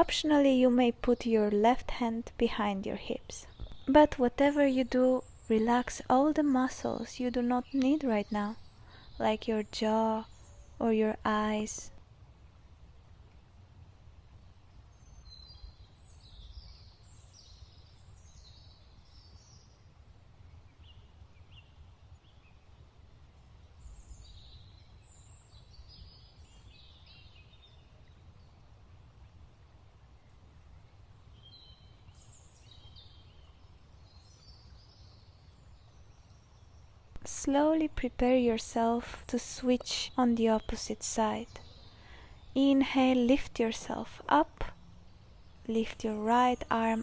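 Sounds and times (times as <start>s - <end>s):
faint birds chirping: 0.0s - 47.0s.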